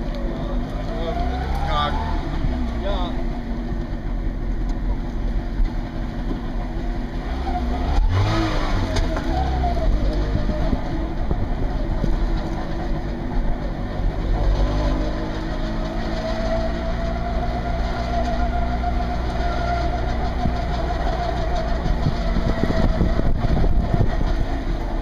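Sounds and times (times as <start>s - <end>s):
small two-stroke car engine: 0.0s - 25.0s.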